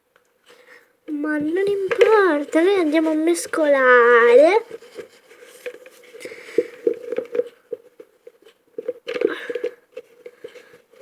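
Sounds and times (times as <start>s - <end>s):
slime being stirred: 1.3s - 11.0s.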